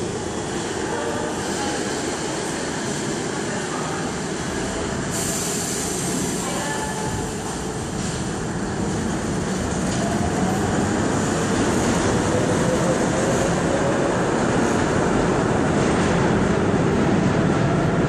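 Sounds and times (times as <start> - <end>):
rising train whine: 0.0 - 18.0
train rolling rumble: 0.0 - 18.0.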